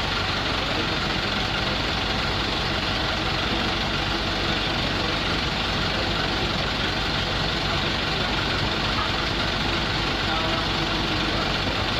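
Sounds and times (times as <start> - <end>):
crane engine running: 0.0 - 11.9.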